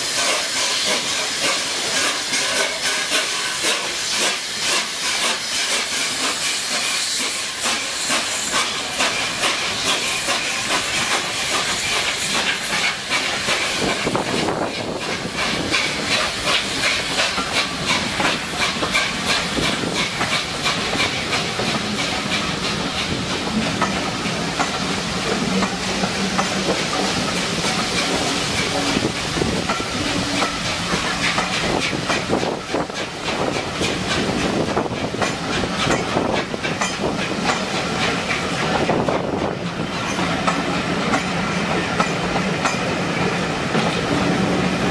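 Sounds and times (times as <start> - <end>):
steam hissing: 0.0 - 44.9
steam locomotive exhaust puffs: 0.0 - 44.9
train wheels rumbling on rail: 0.0 - 44.9.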